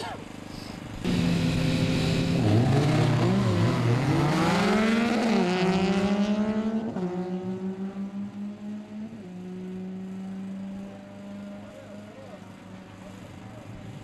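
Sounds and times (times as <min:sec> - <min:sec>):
motorcycles accelerating hard: 0:00.9 - 0:14.0.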